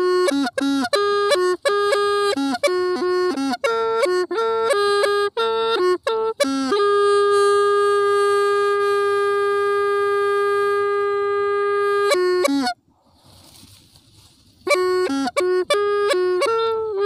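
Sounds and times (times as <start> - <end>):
bamboo pipe melody: 0.0 - 17.0.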